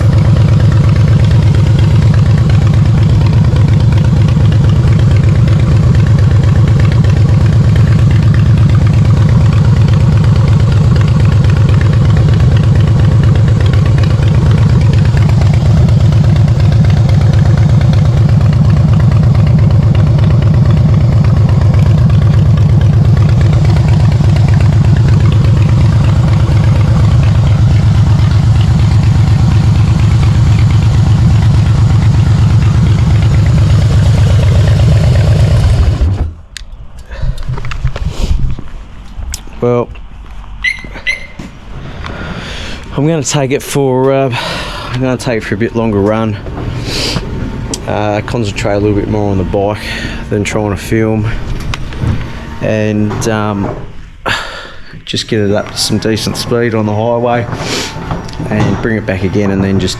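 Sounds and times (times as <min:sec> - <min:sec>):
motorcycle engine running: 0:00.0 - 0:36.6, 0:42.8 - 0:54.4, 0:55.0 - 0:59.9.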